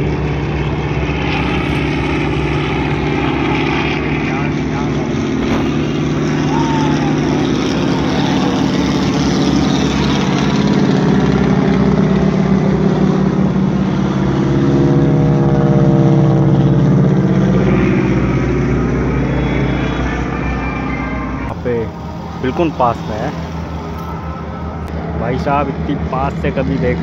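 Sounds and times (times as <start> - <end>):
aircraft engine drone overhead: 0.0 - 27.0.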